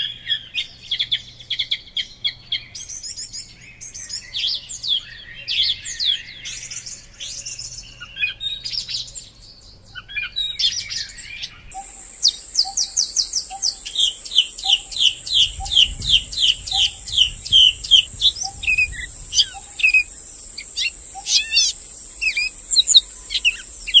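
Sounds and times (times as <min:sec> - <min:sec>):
birds chirping and singing: 0:00.0 - 0:24.0.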